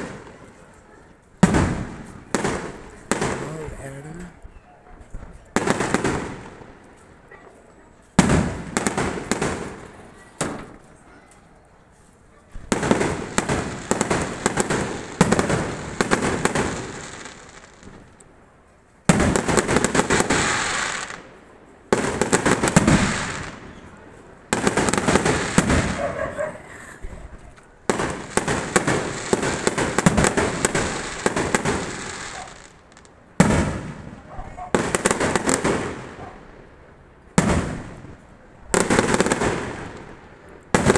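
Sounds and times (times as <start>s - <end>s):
fireworks crackling: 0.0s - 4.5s, 5.1s - 11.0s, 12.1s - 40.9s.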